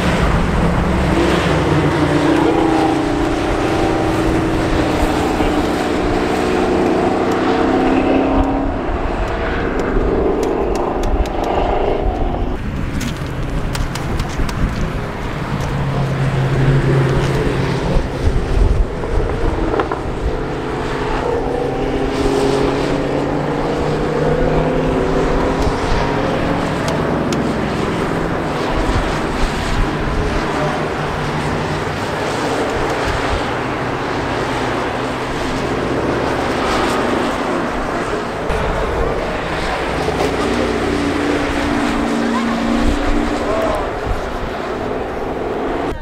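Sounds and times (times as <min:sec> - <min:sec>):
race cars driving past: 0:00.0 - 0:46.0.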